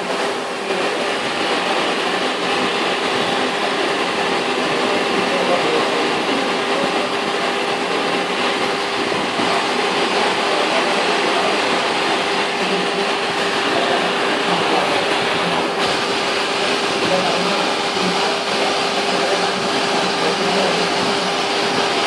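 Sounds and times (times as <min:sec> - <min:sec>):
water rushing through a pipe: 0:00.0 - 0:22.0.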